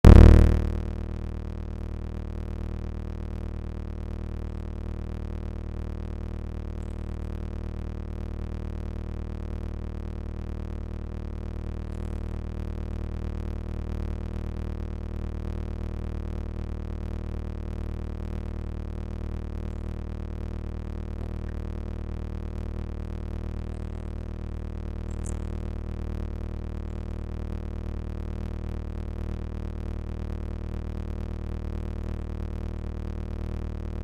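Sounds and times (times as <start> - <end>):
low droning hum: 0.0 - 34.0.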